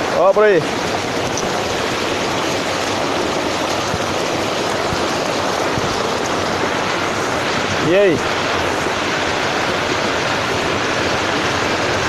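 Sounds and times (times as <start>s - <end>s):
heavy rain: 0.0s - 12.0s
rainwater rushing down street: 0.0s - 12.0s.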